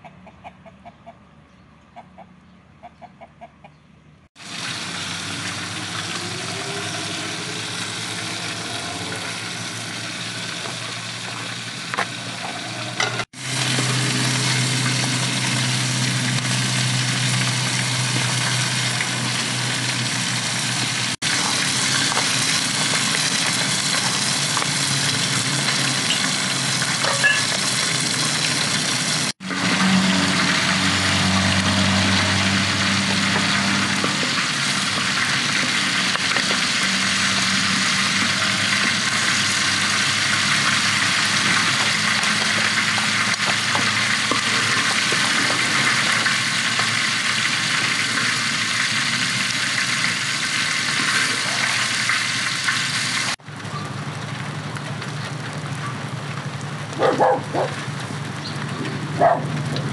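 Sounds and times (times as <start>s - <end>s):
oil sizzling in a pan: 4.4s - 53.4s.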